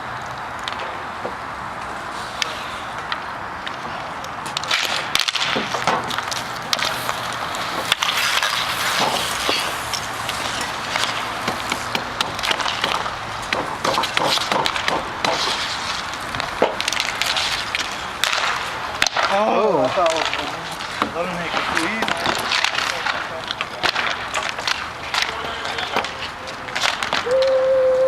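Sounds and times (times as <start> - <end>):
rink noise: 0.0 - 28.0
hockey sticks clacking: 0.2 - 27.6
puck knocking off boards: 0.6 - 27.4.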